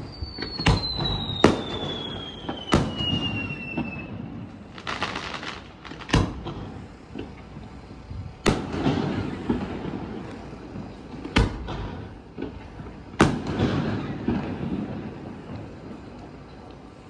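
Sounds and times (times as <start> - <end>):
firework shells booming: 0.0 - 16.4.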